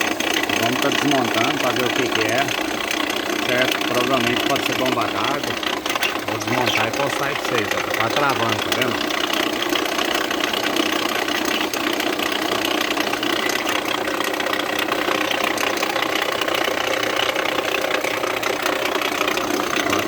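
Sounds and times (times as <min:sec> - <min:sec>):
car engine idling with ticking: 0:00.0 - 0:20.0.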